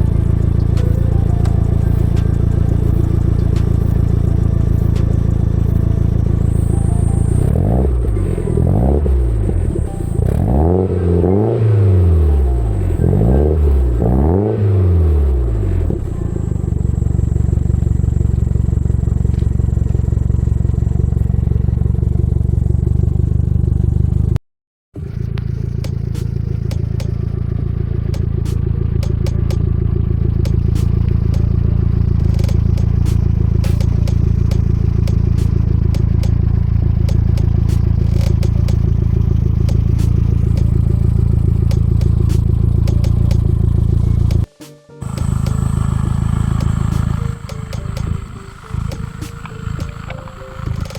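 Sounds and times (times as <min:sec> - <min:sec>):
car engine idling: 0:00.0 - 0:24.3, 0:25.0 - 0:50.9.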